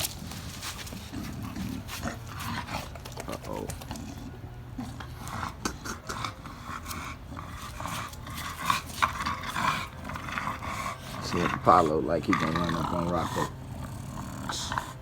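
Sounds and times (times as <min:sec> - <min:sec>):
paws clicking and scraping: 0:00.0 - 0:15.0
puppies growling: 0:00.0 - 0:15.0.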